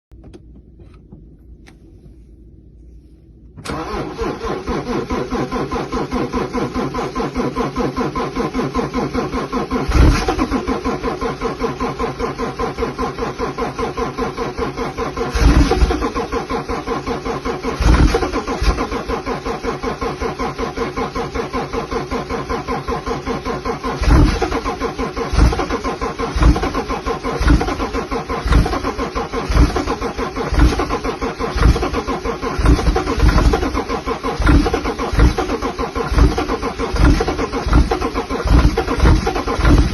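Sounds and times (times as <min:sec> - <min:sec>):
car engine pulsing: 0:00.1 - 0:39.9.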